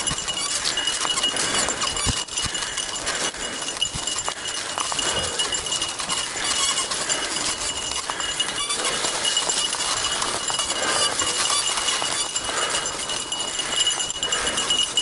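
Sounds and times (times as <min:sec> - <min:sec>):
bike tyres crackling on leaves: 0:00.0 - 0:15.0.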